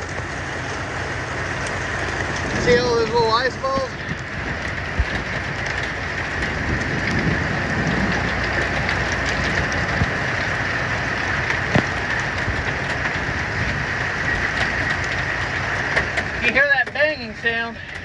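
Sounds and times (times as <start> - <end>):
hail drumming on a truck roof: 0.0 - 18.0.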